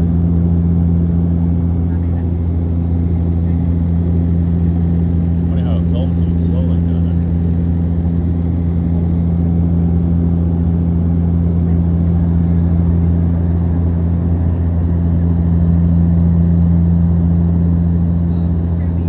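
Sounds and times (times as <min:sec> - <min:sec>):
propeller aircraft cabin drone: 0:00.0 - 0:19.0.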